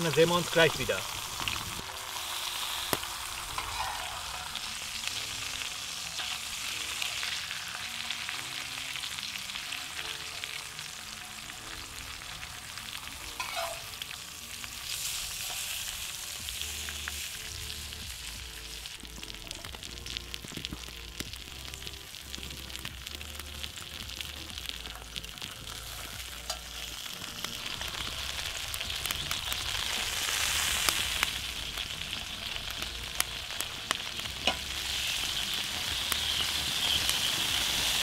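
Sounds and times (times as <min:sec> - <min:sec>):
meat sizzling on hot plate: 0:00.0 - 0:38.0
quiet background music: 0:00.0 - 0:38.0.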